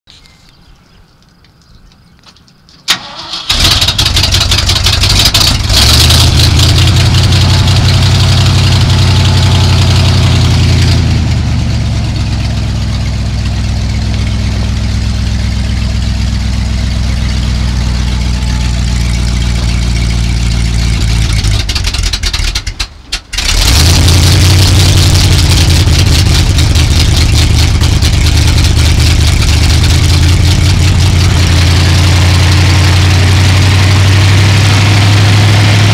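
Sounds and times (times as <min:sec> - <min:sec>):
truck engine starting and idling: 0:02.9 - 0:35.9.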